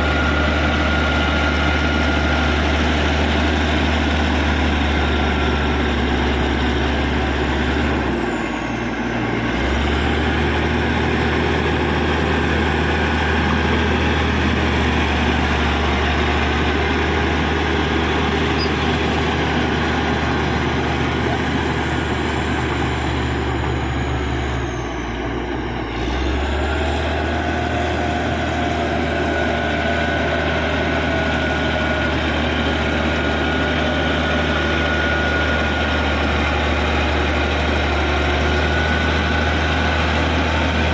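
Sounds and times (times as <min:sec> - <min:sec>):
bulldozer diesel engine humming: 0:00.0 - 0:40.9.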